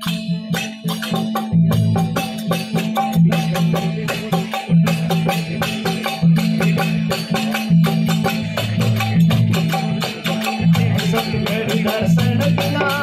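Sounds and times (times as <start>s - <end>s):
dholak drum: 0.0s - 13.0s
wooden hand percussion clatter: 0.0s - 13.0s
harmonium: 0.9s - 13.0s.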